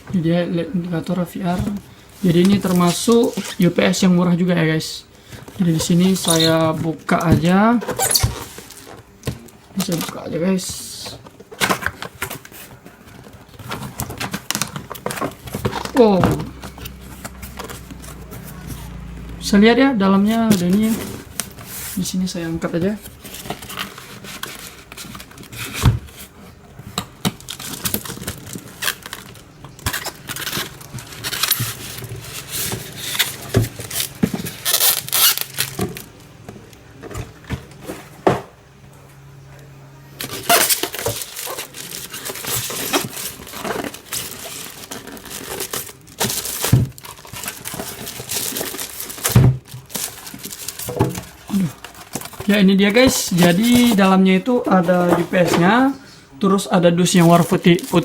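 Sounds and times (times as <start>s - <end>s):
cardboard and plastic rustling: 0.0s - 39.3s, 40.0s - 58.0s.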